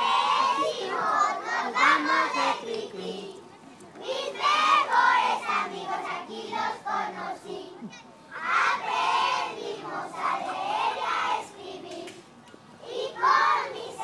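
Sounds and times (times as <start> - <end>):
young voices chanting a cheer: 0.0 - 3.4, 4.0 - 12.1, 12.8 - 14.0.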